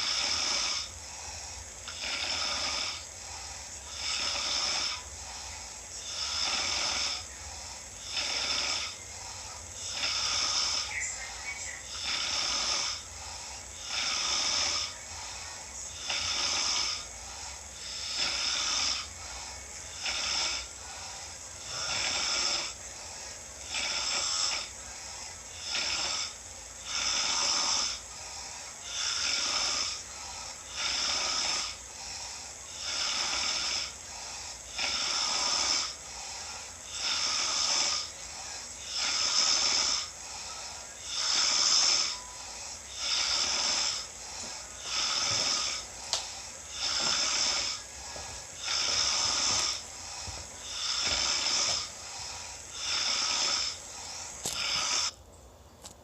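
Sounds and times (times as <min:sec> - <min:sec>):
person snoring: 0:00.0 - 0:55.2.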